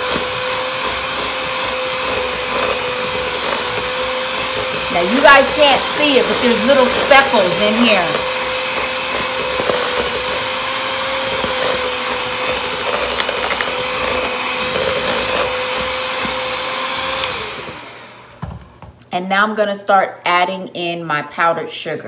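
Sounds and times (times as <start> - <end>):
electric hand mixer whining: 0.0 - 18.6.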